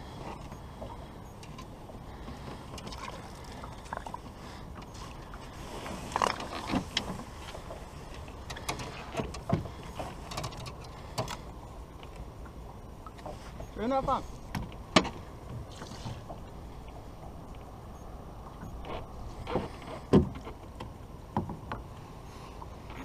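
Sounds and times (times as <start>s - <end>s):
water lapping against boat: 0.0s - 23.0s.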